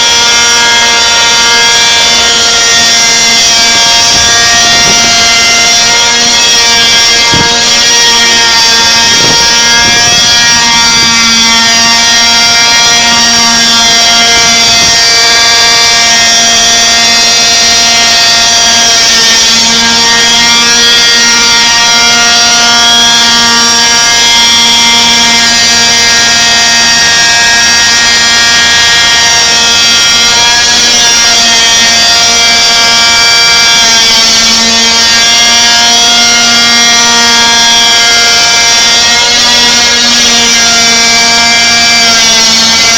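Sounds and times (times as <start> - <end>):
rc helicopter engine hovering: 0.0 - 42.9.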